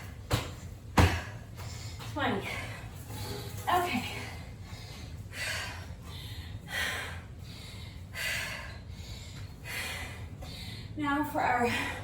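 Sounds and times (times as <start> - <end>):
woman breathing hard: 1.0 - 12.0.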